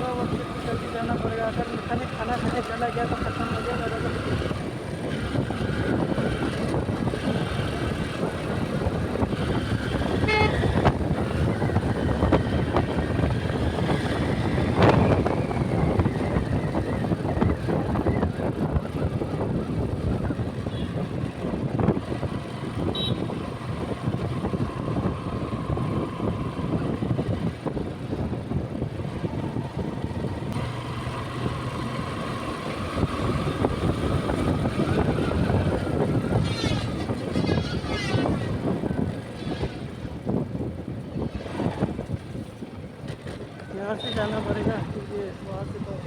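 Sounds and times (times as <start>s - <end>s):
motorcycle running: 0.0s - 46.0s
wind and road noise: 0.0s - 46.0s.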